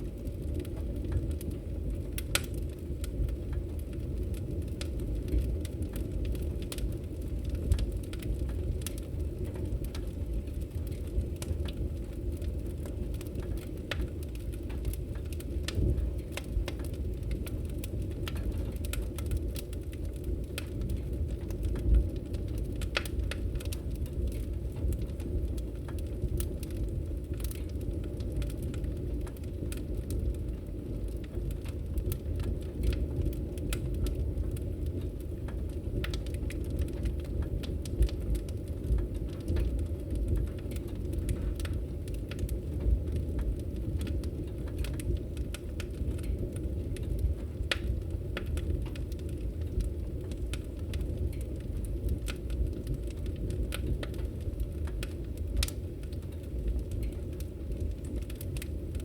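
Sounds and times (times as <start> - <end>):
fire flames rushing: 0.0 - 59.0
wood crackling and popping: 0.0 - 59.0.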